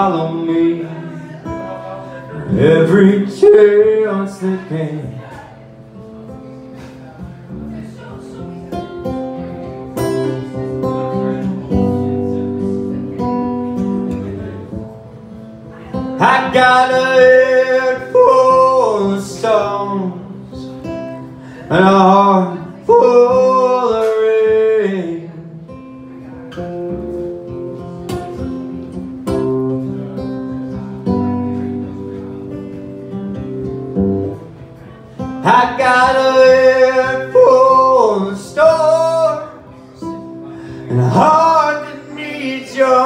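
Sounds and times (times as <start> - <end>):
acoustic guitar strummed: 0.0 - 43.0.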